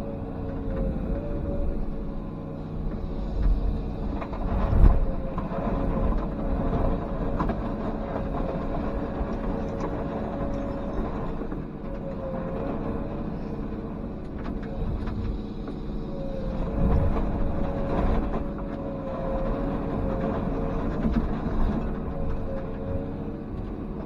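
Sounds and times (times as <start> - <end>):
excavator diesel engine running: 0.0 - 24.0
steady whine: 0.0 - 24.0.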